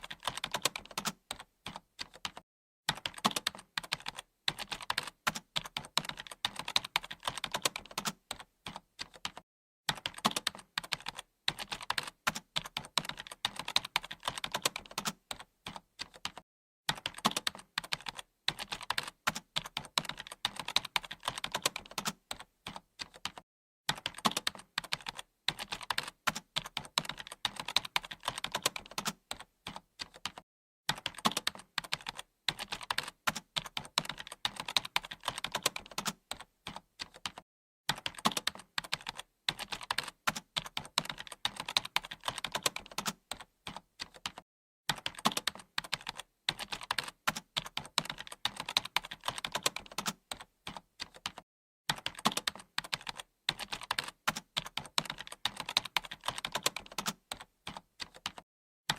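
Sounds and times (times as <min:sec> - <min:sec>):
keyboard typing: 0:00.0 - 0:58.9.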